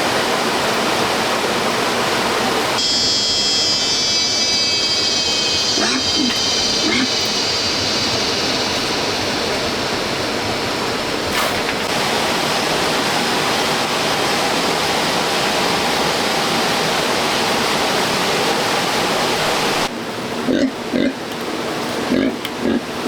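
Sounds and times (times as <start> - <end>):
rushing water: 0.0 - 2.9, 3.7 - 23.0.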